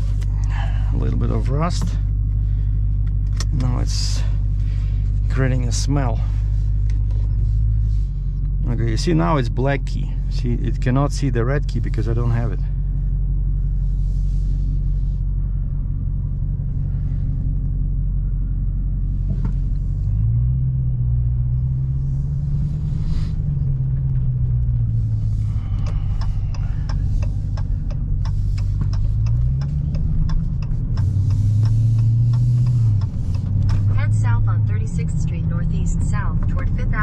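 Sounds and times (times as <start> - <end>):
car engine at low revs: 0.0 - 37.0.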